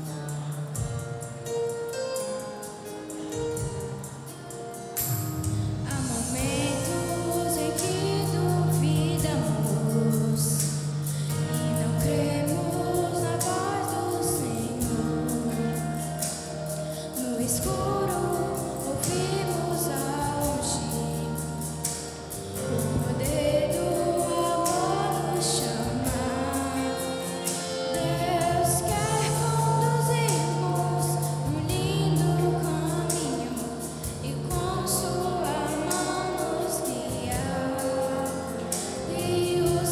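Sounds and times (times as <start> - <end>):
instrumental accompaniment: 0.0 - 39.9
children's choir singing: 5.9 - 21.6, 22.6 - 39.9.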